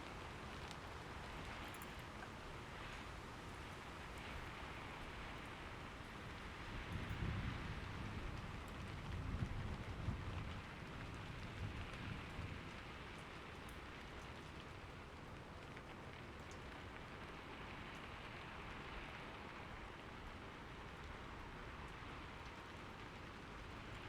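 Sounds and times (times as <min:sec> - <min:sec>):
sharp raindrop ticks: 0:00.0 - 0:24.0
steady rain falling: 0:00.0 - 0:24.0.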